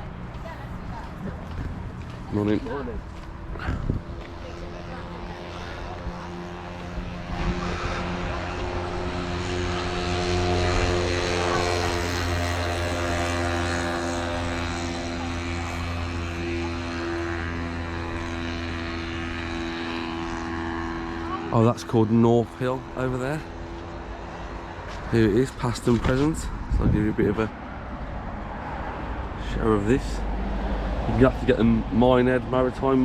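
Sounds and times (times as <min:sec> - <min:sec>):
propeller aircraft droning overhead: 0:00.0 - 0:33.0.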